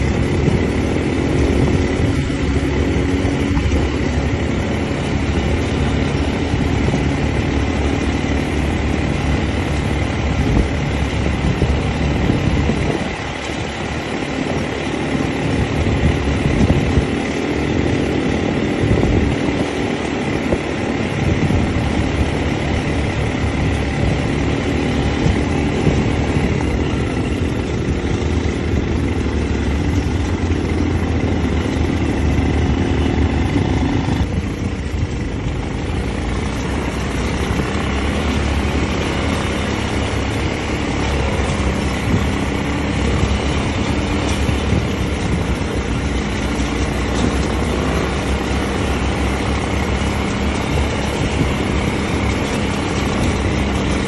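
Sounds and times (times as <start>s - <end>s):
quad bike engines droning: 0.0s - 54.0s.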